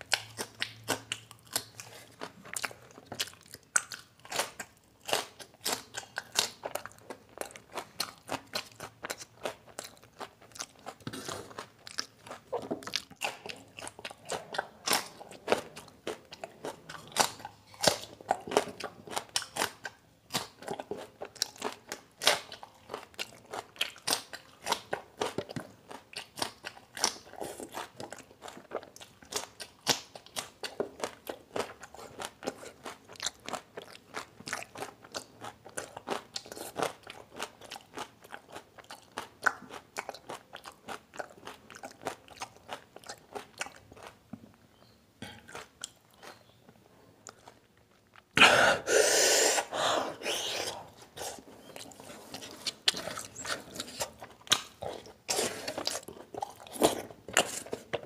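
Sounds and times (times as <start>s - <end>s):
person chewing crunchy chillies: 0.0s - 58.0s.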